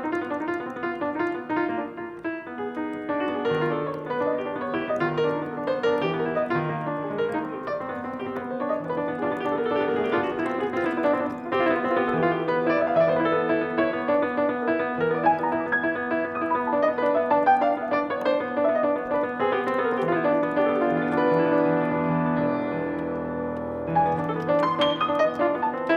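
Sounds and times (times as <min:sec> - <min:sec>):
piano playing: 0:00.0 - 0:25.9.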